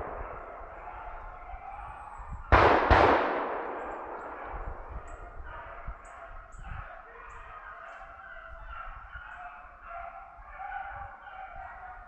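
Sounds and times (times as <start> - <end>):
hounds baying: 0.0 - 2.6, 3.9 - 12.0.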